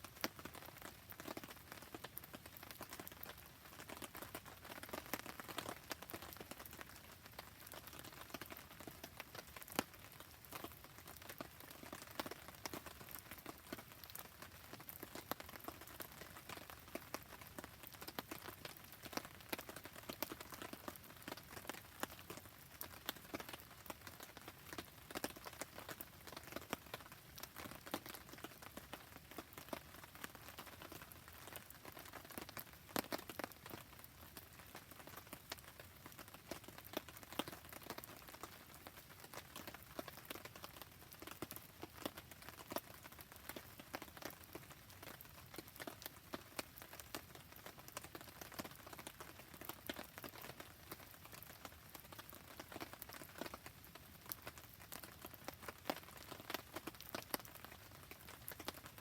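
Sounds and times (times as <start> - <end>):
campfire crackling and popping: 0.0 - 59.0
steady rain: 0.0 - 59.0.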